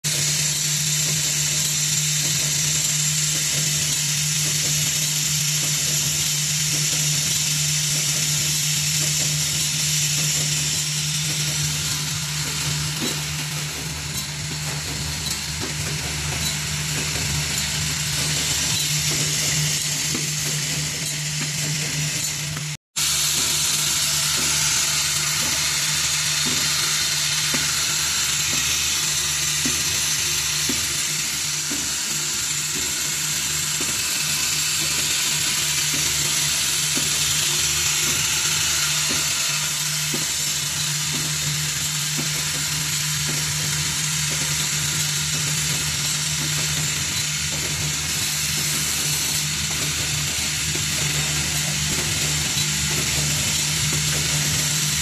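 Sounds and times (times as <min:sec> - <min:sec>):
assembly machine hum and hiss: 0:00.0 - 0:55.0.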